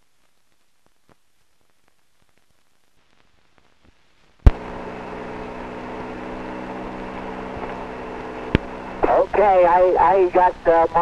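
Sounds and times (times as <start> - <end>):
faint crackles: 0.0 - 11.0
radio channel hiss and hum: 0.0 - 11.0.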